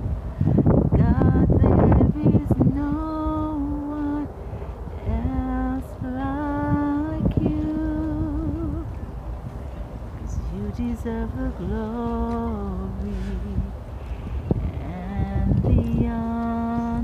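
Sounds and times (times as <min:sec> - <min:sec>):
wind rumble on microphone: 0:00.0 - 0:17.0
woman singing unaccompanied: 0:00.5 - 0:09.1, 0:10.2 - 0:13.9, 0:14.5 - 0:17.0.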